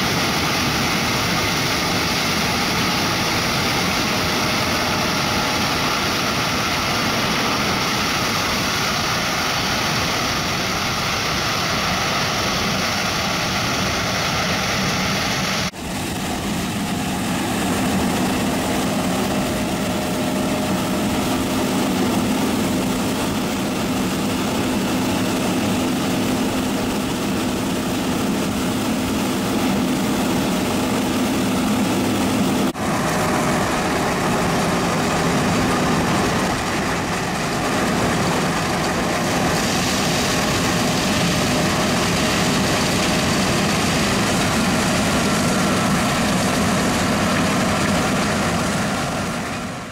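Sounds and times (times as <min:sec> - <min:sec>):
auger unloading corn with low hum: 0:00.0 - 0:49.9
combine harvester running: 0:00.0 - 0:49.9.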